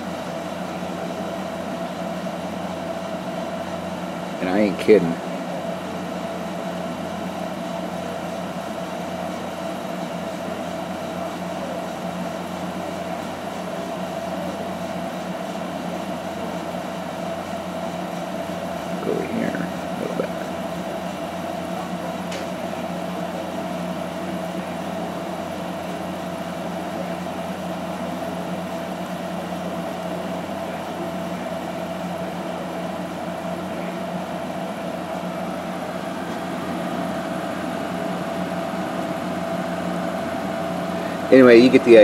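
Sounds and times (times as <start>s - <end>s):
air conditioner fan whirring: 0.0s - 42.0s.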